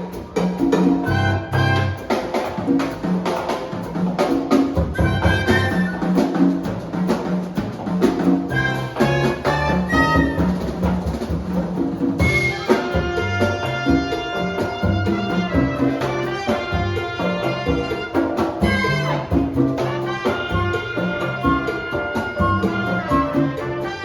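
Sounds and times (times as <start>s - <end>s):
bass: 0.0s - 24.0s
drums and percussion: 0.0s - 24.0s.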